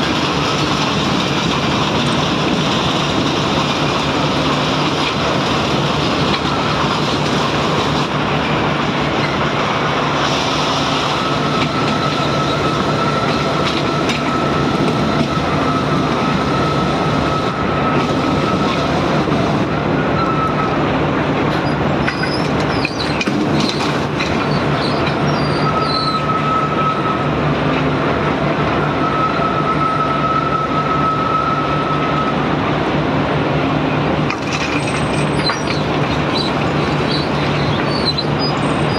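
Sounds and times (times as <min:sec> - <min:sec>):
high squealing whine: 0:00.0 - 0:33.0, 0:33.8 - 0:38.9
excavator diesel engine: 0:00.0 - 0:38.9.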